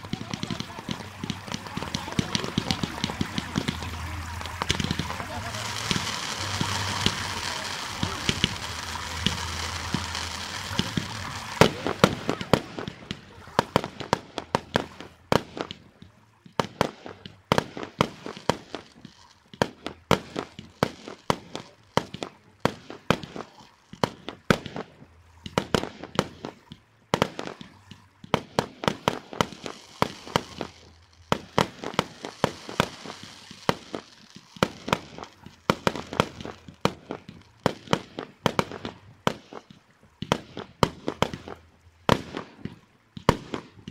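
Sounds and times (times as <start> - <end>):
firework fountains hissing: 0.0 - 43.9
fireworks bangs and cracks: 0.0 - 43.9.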